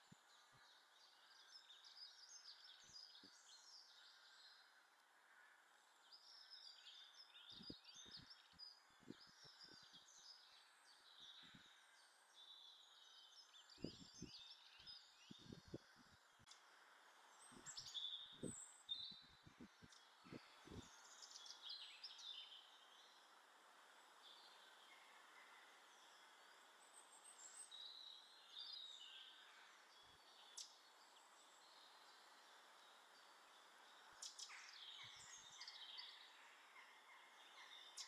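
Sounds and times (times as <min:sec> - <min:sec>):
songbirds chirping and trilling: 0:00.0 - 0:38.0.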